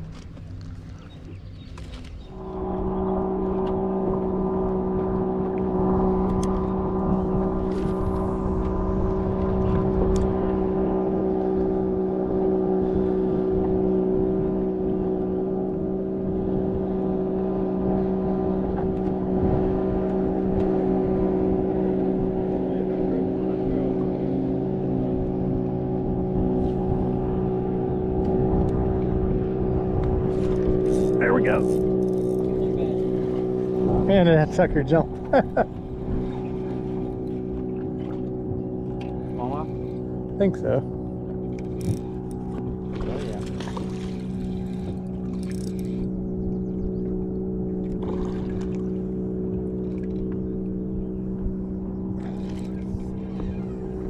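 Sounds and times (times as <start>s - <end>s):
boat motor humming: 0.0s - 54.0s.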